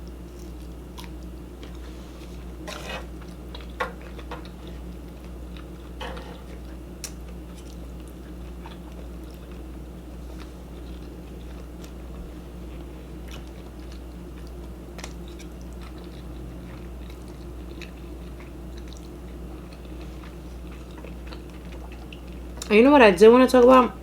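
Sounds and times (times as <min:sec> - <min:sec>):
person chewing food: 0:00.0 - 0:22.7
steady low hum: 0:00.0 - 0:24.0.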